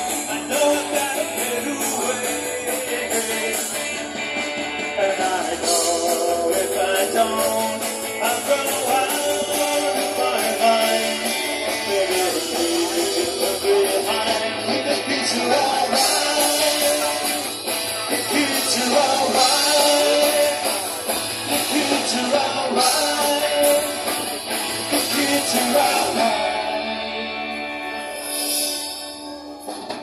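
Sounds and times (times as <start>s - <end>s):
person singing: 0.0s - 4.2s, 4.8s - 27.8s
live rock band: 0.0s - 30.0s.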